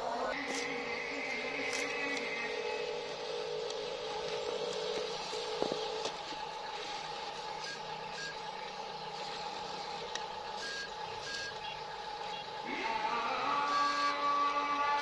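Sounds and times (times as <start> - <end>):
toy electric motor whine: 0.0 - 15.0.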